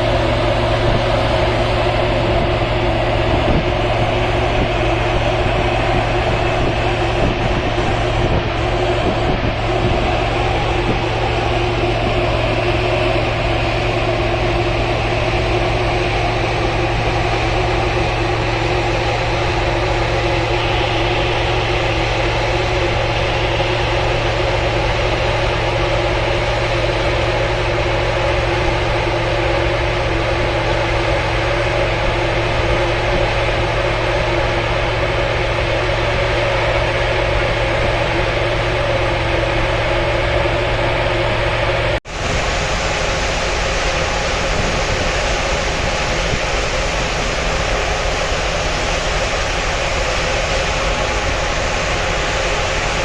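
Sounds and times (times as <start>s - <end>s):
constant rushing noise: 0.0s - 53.0s
ship engine low hum: 0.0s - 53.0s.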